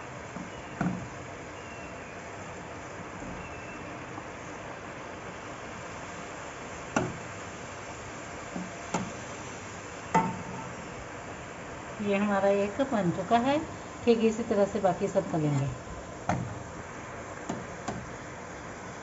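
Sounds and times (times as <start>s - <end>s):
hot oil sizzling: 0.0s - 19.0s.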